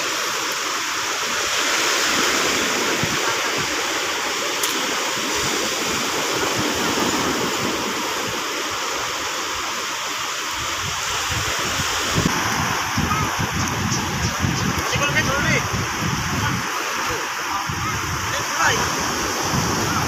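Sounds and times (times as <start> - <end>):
surf breaking on beach: 0.0 - 20.0.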